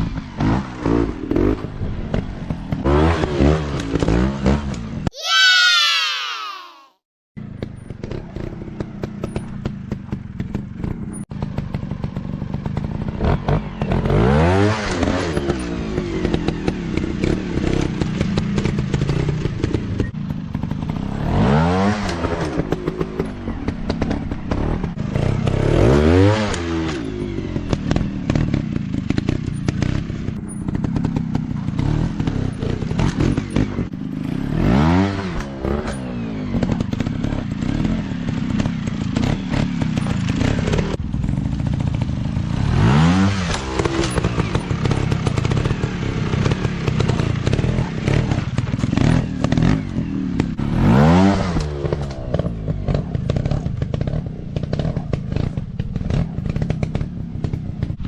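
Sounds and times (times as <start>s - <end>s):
dirt bike engine revving: 0.0s - 6.8s, 8.0s - 58.0s.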